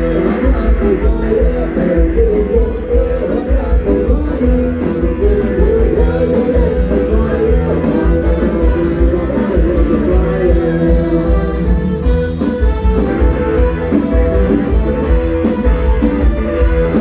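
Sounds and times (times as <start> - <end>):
loud live band music: 0.0 - 17.0.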